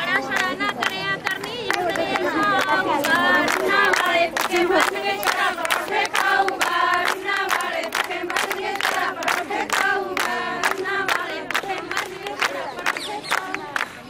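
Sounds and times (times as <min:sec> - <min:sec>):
women singing in chorus: 0:00.0 - 0:14.0
handclaps: 0:00.2 - 0:14.0.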